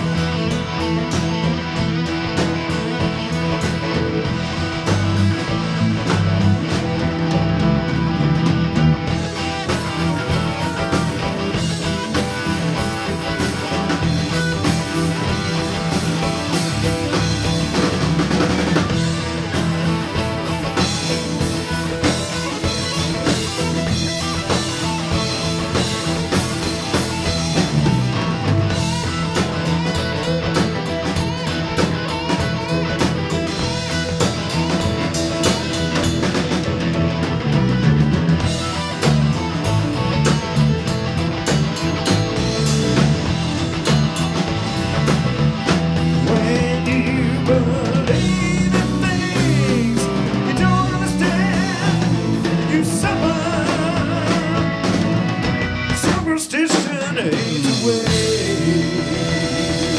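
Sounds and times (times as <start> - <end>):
bass: 0.0 - 59.9
drum kit: 0.0 - 59.9
electric guitar: 0.0 - 59.9
keyboards: 0.0 - 59.9.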